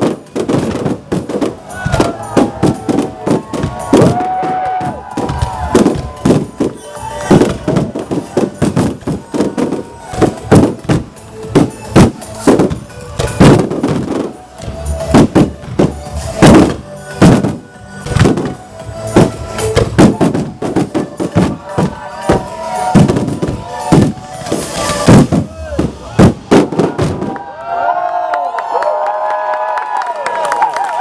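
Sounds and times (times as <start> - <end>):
music: 0.0 - 27.5
fireworks bangs: 0.0 - 27.6.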